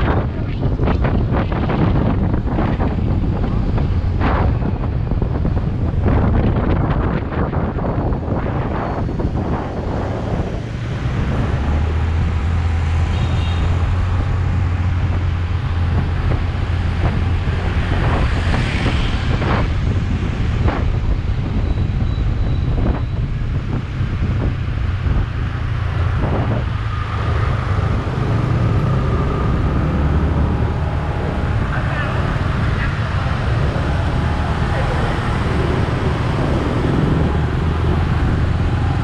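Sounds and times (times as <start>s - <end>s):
surrounding traffic: 0.0s - 39.0s
wind buffeting microphone: 0.0s - 39.0s.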